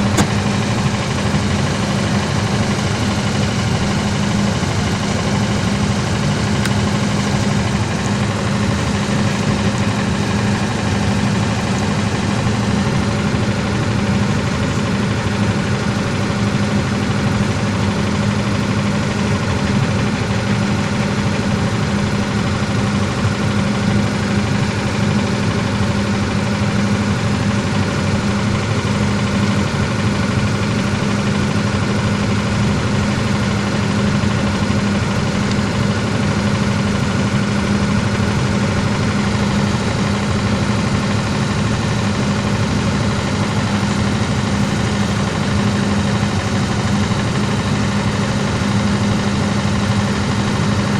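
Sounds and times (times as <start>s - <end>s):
machine engine droning: 0.0s - 50.9s.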